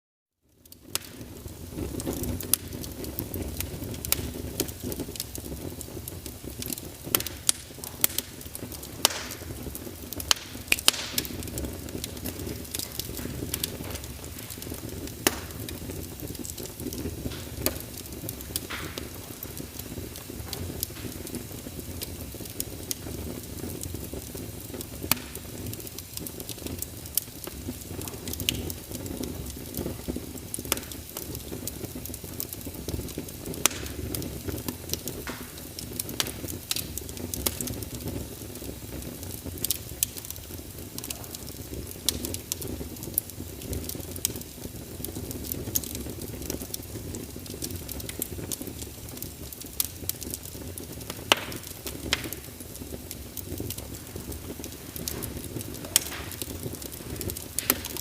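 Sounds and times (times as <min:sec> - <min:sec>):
wood fire crackling: 0:00.4 - 0:58.0.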